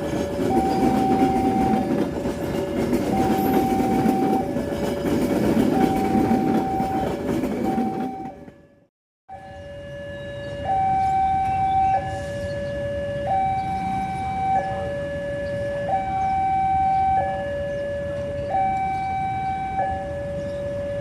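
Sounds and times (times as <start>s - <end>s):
two-tone electronic warning siren: 0.0s - 21.0s.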